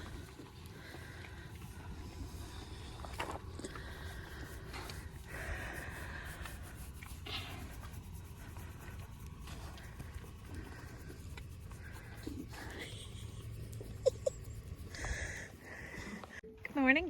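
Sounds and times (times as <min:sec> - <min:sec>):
scratchy rubbing and rustling: 0:00.0 - 0:16.4
steady low rumble: 0:00.0 - 0:16.4.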